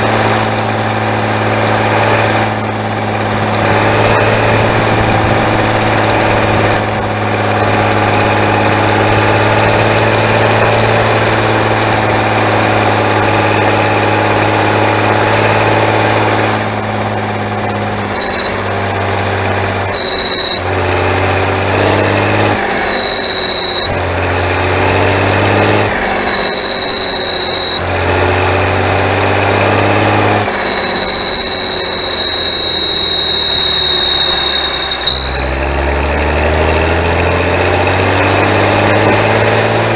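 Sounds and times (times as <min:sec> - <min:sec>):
high turbo whistle: 0:00.0 - 0:39.9
tractor diesel engine running: 0:00.0 - 0:39.9.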